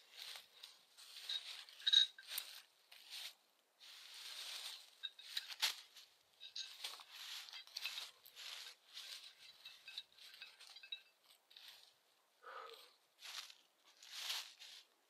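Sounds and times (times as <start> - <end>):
dry leaves crunching underfoot: 0.0 - 12.0, 13.2 - 15.0.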